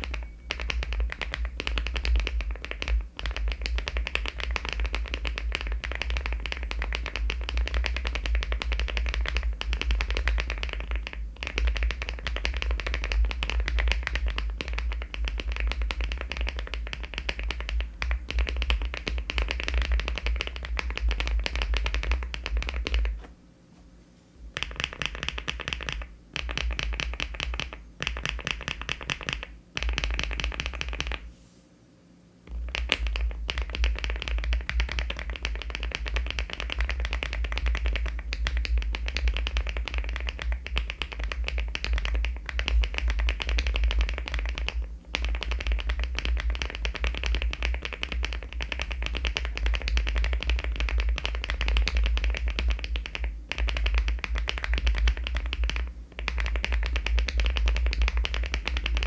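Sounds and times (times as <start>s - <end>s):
mechanical keyboard typing: 0.0s - 23.2s, 24.6s - 31.2s, 32.5s - 59.0s.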